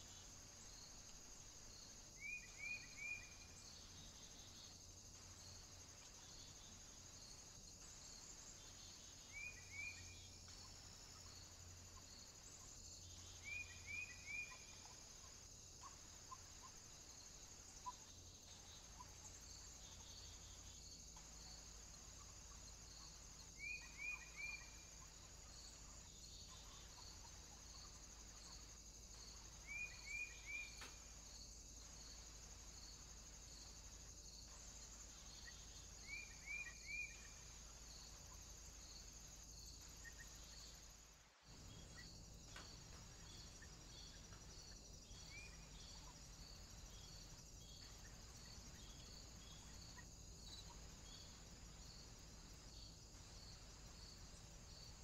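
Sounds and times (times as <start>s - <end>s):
faint woodland ambience: 0.0s - 55.0s
insect-like chirp: 0.0s - 55.0s.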